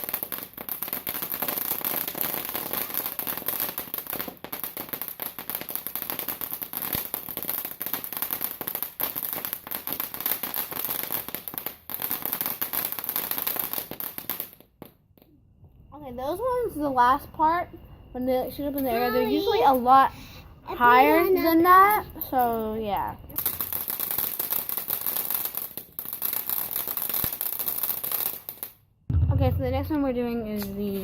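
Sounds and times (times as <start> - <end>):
firework crackling and popping: 0.0 - 15.3, 21.0 - 31.0.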